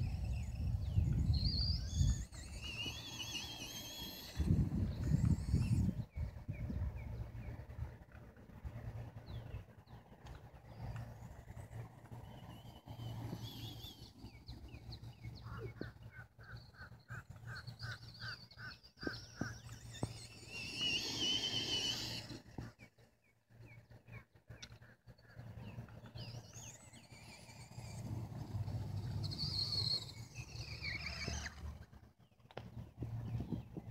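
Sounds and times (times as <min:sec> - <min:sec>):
birds chirping and calling: 0:00.0 - 0:33.9.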